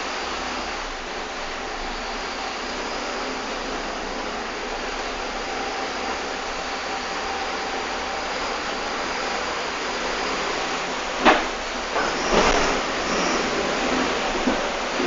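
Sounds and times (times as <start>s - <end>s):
bus cabin engine and road noise: 0.0s - 15.0s.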